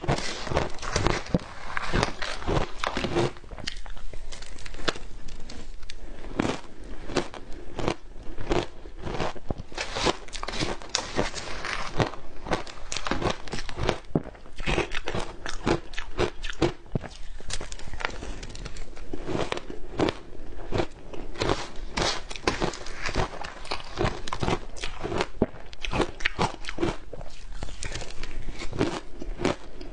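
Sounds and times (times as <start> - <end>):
ice crunching while chewed: 0.0 - 29.9.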